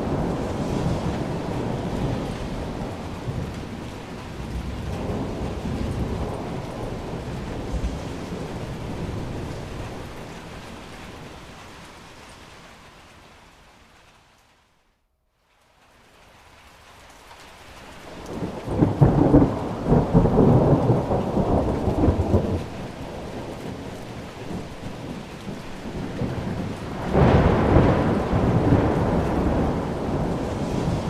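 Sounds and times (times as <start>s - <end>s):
thunder rumbling: 0.0s - 12.4s, 18.0s - 31.0s
steady rain: 0.0s - 31.0s.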